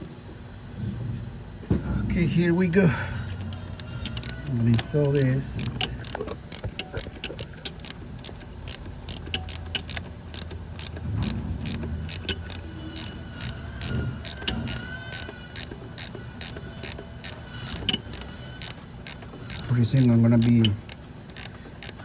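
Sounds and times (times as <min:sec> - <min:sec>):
ratchet wrench clicking: 0:03.3 - 0:22.0.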